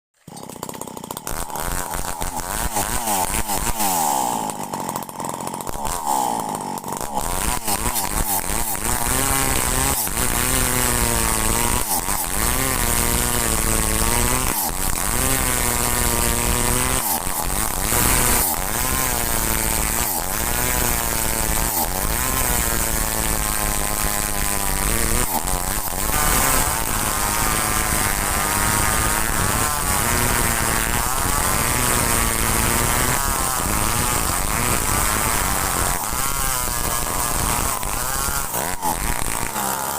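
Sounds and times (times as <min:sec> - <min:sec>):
chainsaw cutting hardwood: 0:00.2 - 0:39.9.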